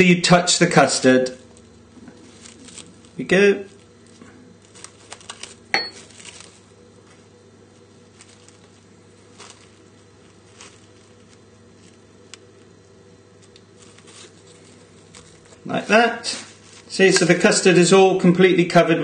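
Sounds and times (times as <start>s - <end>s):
cling film crinkling: 1.2s - 18.0s.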